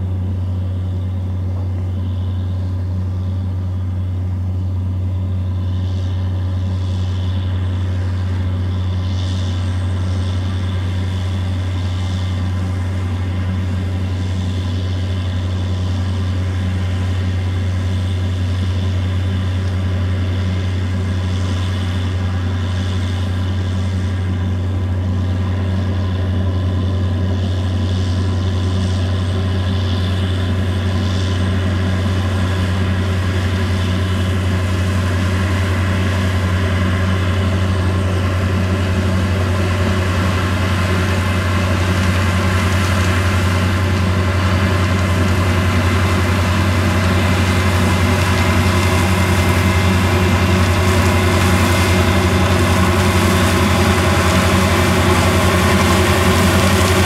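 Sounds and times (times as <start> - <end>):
harvester engine and machinery humming: 0.0 - 57.0.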